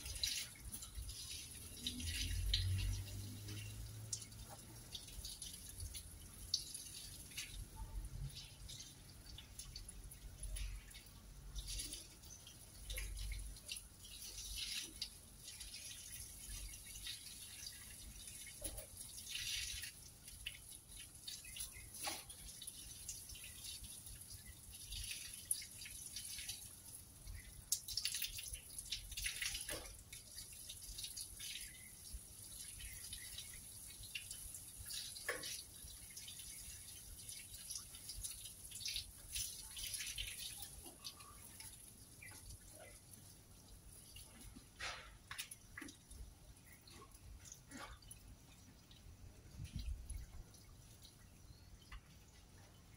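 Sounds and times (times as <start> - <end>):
hose water splashing on rags: 0.0 - 51.2.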